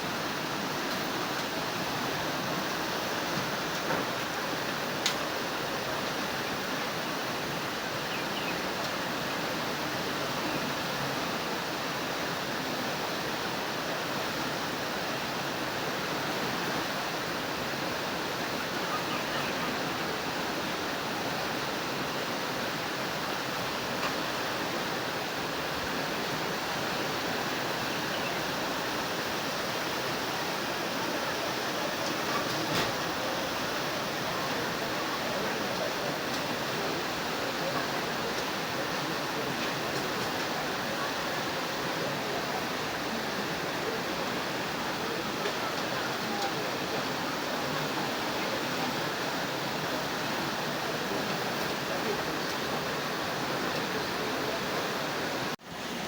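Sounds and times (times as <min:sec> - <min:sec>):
rushing floodwater: 0:00.0 - 0:56.0.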